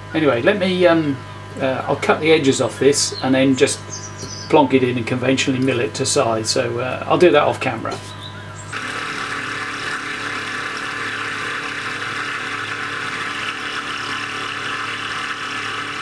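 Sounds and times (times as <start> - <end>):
milling machine spindle whine: 0.0 - 16.0.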